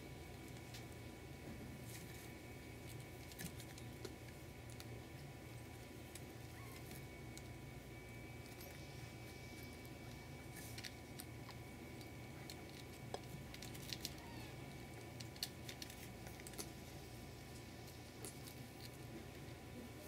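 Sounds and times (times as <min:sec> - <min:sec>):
low background hum: 0:00.0 - 0:20.0
soft clicks and rustles of kittens: 0:00.0 - 0:20.0.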